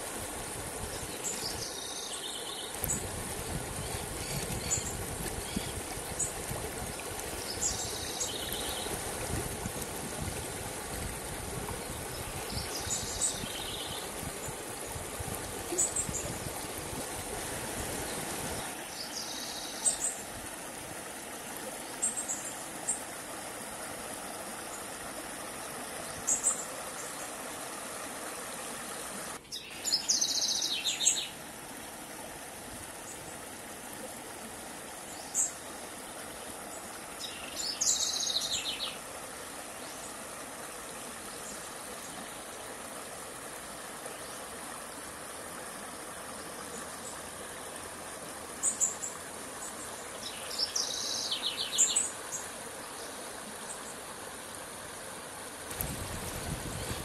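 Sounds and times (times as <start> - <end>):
river running over rocks: 0.0 - 57.0.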